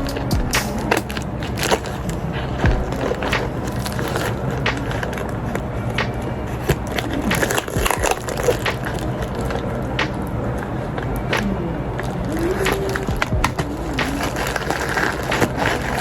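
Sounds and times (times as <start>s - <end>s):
low background rumble: 0.0s - 16.0s
package tape tearing and crinkling: 0.7s - 6.0s, 6.6s - 10.1s, 11.4s - 16.0s.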